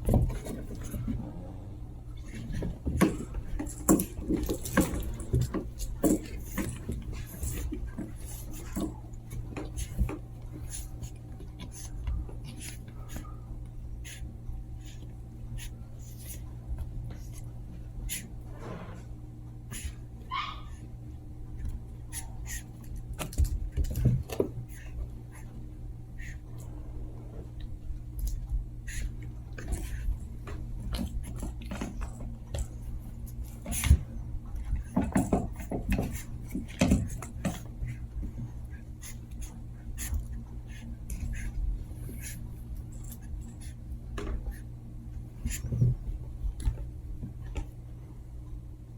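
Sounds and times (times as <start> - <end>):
puppies scuffling and mouthing: 0.0 - 18.3, 19.7 - 48.6
paws scratching and tapping: 0.0 - 18.4, 19.7 - 26.8, 27.4 - 48.6
low hum: 0.0 - 48.9.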